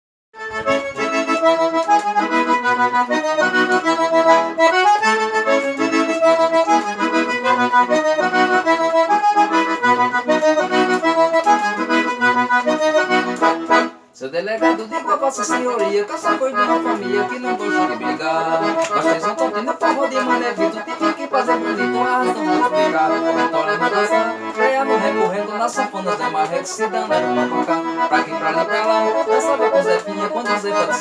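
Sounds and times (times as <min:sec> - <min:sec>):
accordion playing lively melody: 0:00.4 - 0:31.0.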